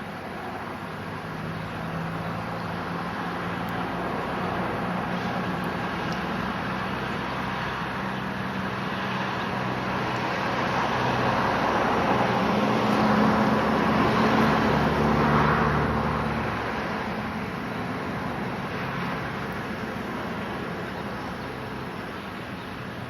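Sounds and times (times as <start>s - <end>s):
low engine hum: 0.0s - 23.0s
vehicle passing: 0.0s - 23.0s.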